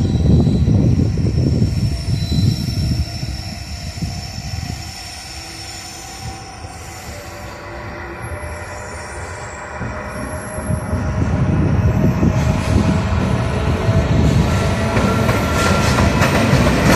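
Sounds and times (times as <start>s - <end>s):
high squealing tones: 0.0s - 16.3s
freight train rumbling past: 0.0s - 16.9s.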